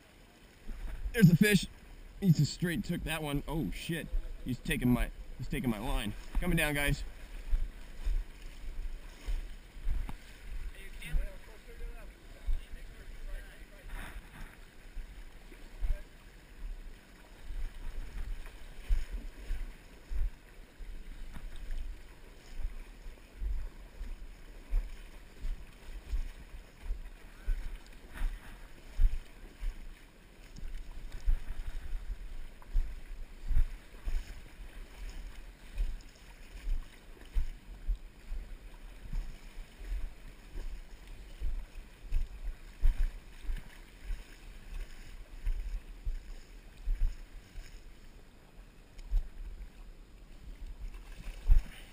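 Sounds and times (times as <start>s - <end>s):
river water swirling: 0.0s - 51.9s.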